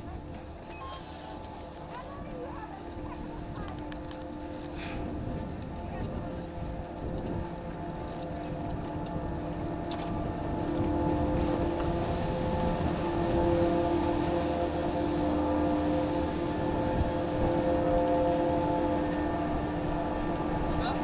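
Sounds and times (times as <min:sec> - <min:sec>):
machinery humming with held tones: 0:00.0 - 0:21.0.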